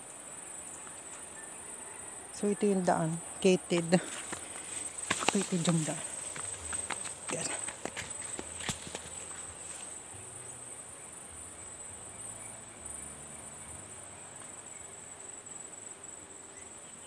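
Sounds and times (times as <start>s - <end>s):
insects chirping chorus: 0.0s - 17.0s.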